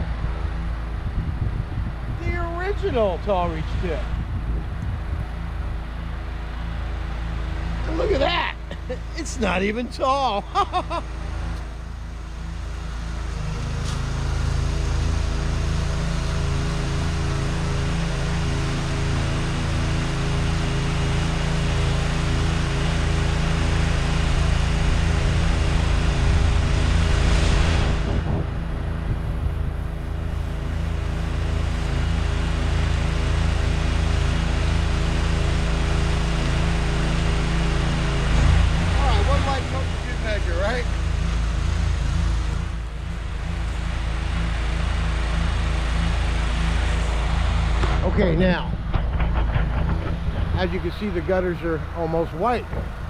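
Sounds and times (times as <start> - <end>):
pressure washer engine drone: 0.0 - 53.0.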